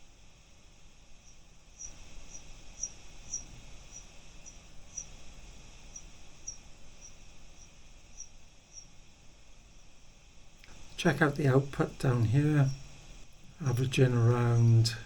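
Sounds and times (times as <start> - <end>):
faint hiss: 0.0 - 15.0
bat echolocation chirps: 0.7 - 15.0.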